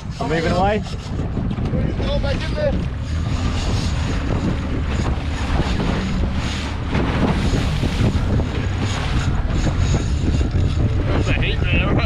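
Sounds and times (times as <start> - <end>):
boat motor running: 0.0 - 12.0
water noise: 0.0 - 12.0
wind buffeting microphone: 0.0 - 12.0.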